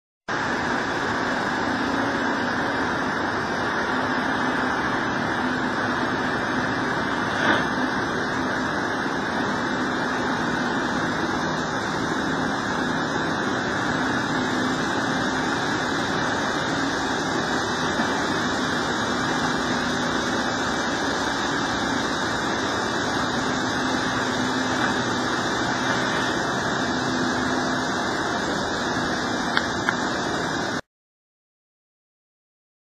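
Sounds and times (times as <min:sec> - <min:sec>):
excavator diesel engine running: 0:00.3 - 0:30.8.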